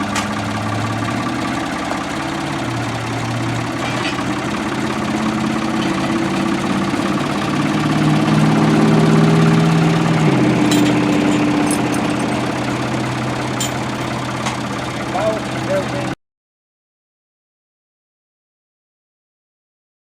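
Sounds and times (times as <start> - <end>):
engine running: 0.0 - 16.2.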